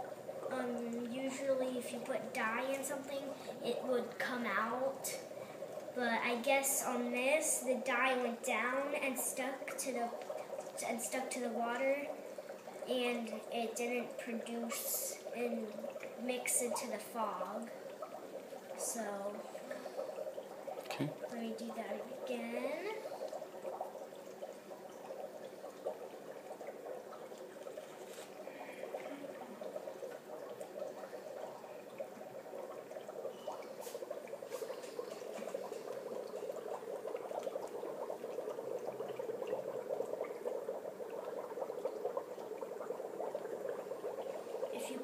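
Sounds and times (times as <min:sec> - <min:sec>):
dry ice bubbling in water: 0:00.0 - 0:45.0.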